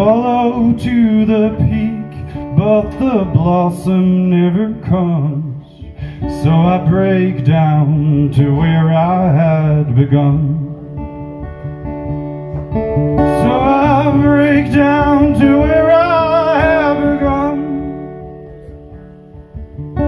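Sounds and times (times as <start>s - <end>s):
man singing: 0.0s - 11.0s, 13.1s - 18.8s
acoustic guitar: 0.0s - 20.0s.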